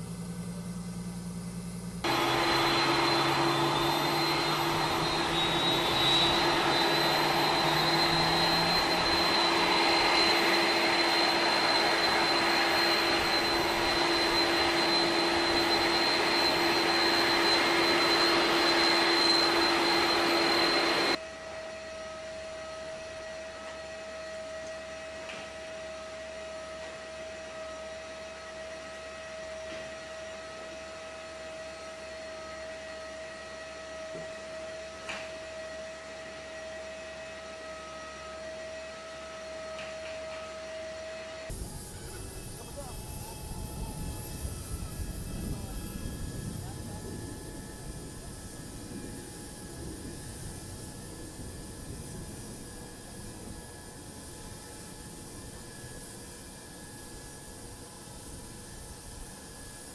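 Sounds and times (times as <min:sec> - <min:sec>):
jet turbine whine: 0:00.0 - 0:59.9.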